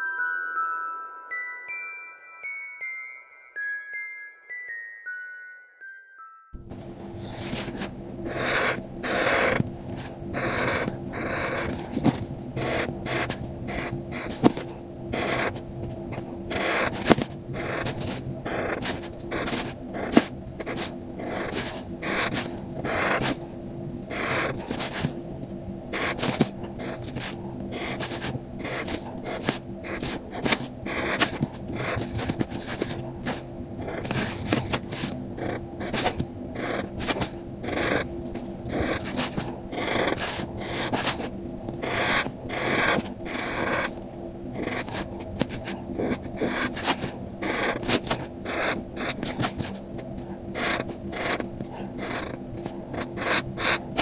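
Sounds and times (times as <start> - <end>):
faint low hum: 6.6 - 54.0
paper scraping and rustling: 6.7 - 14.8, 15.4 - 25.2, 26.0 - 54.0.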